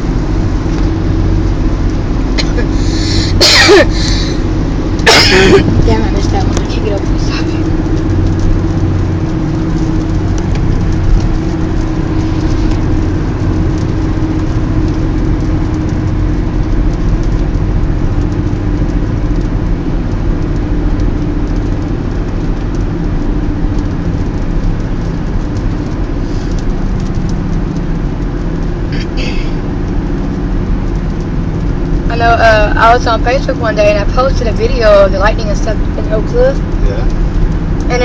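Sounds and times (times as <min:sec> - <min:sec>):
car engine drone: 0:00.0 - 0:38.0
tyre and road noise: 0:00.0 - 0:38.0.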